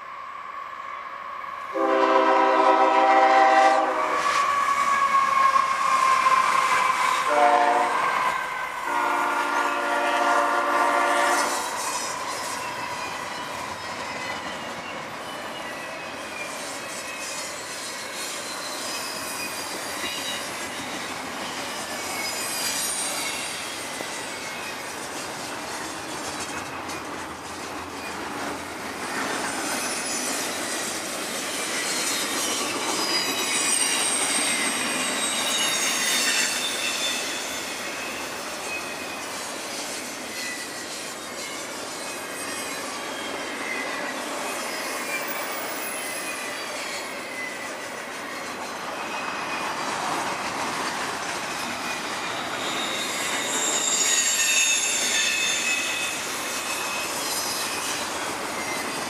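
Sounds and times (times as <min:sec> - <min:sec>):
freight train rumbling on rails: 0:00.0 - 0:59.0
train wheels squealing: 0:00.0 - 0:59.0.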